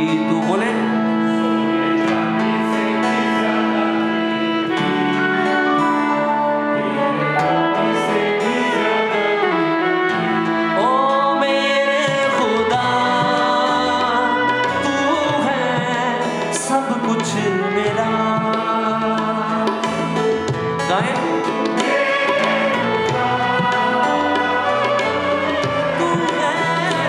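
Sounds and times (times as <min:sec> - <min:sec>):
band accompaniment: 0:00.0 - 0:27.0
person singing worship song: 0:00.0 - 0:27.0.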